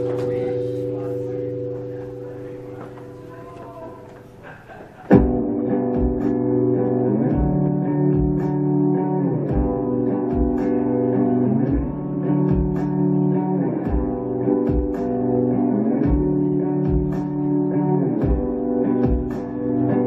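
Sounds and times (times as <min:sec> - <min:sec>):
electric guitar ringing chords: 0:00.0 - 0:20.0.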